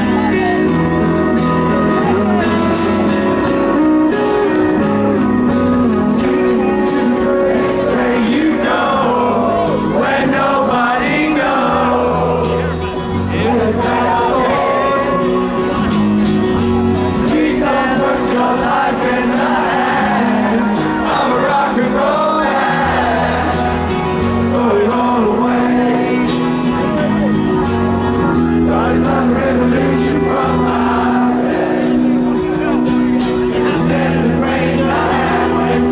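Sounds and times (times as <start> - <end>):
person singing: 0.0 - 35.9
rock band playing: 0.0 - 35.9.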